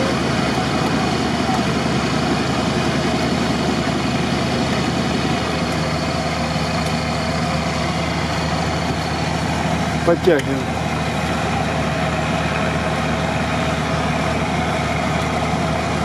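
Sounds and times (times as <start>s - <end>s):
diesel engine running under load: 0.0s - 16.0s
winch cable dragging truck through mud: 0.0s - 16.0s.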